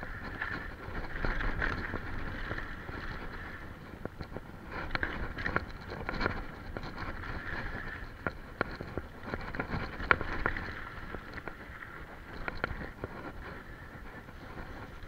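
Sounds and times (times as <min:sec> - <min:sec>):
bike clicking and rattling: 0:00.0 - 0:15.0
wind on microphone: 0:00.0 - 0:15.0.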